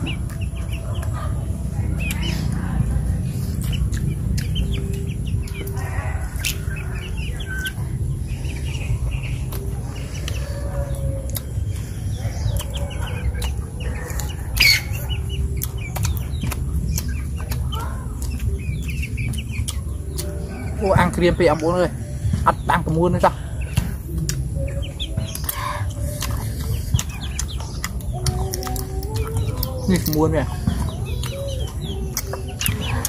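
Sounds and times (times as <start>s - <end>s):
chickens clucking: 0.0s - 33.0s
low steady rumble: 0.0s - 33.0s.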